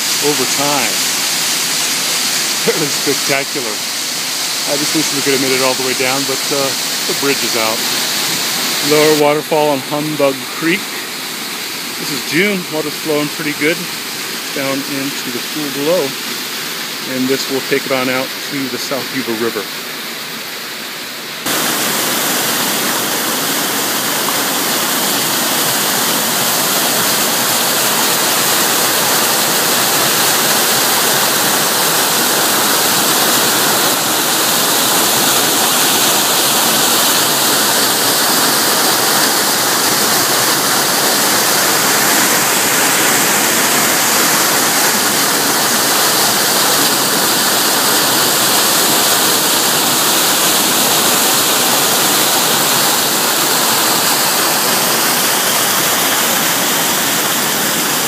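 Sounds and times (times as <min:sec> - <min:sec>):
waterfall rushing into pool: 0:00.0 - 0:58.0.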